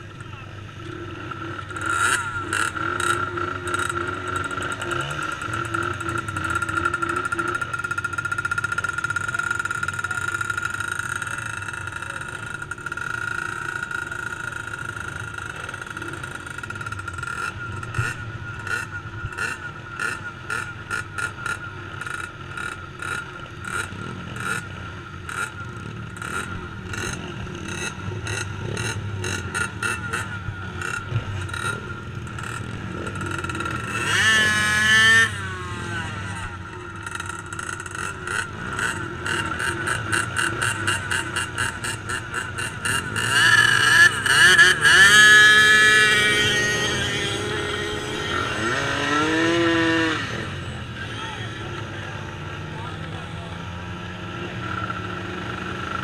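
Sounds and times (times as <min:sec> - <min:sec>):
small quad engines revving: 0:00.0 - 0:56.0.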